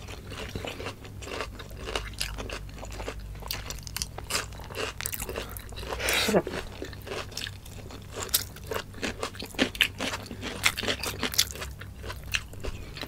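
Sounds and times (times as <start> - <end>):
crisp chewing crunches: 0.0 - 13.0.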